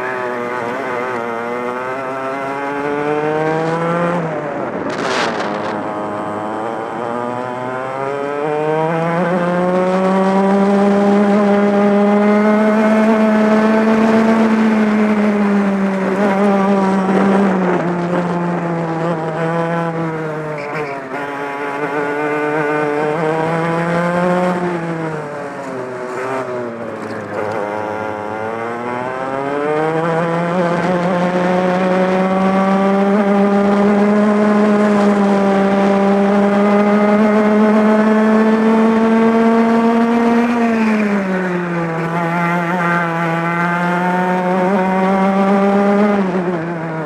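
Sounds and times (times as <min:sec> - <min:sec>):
kart engine revving: 0:00.0 - 0:47.0.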